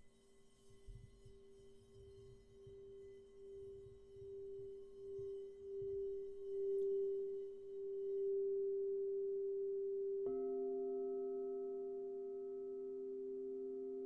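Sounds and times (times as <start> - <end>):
singing bowl tone: 0.0 - 14.0.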